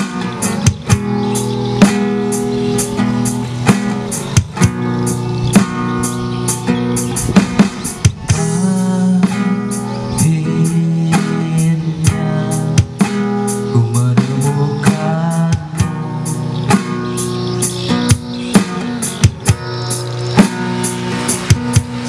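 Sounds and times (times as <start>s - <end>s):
acoustic guitar chords: 0.0s - 22.0s
drum kit hits: 0.0s - 22.0s.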